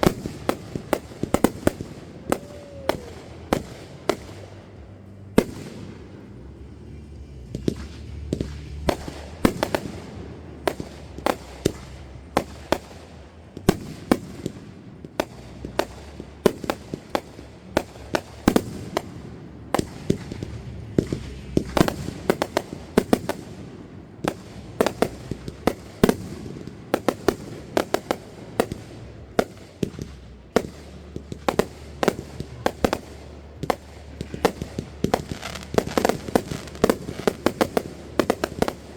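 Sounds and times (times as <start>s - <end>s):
fireworks bangs and pops: 0.0s - 38.9s
low background rumble: 0.0s - 38.9s.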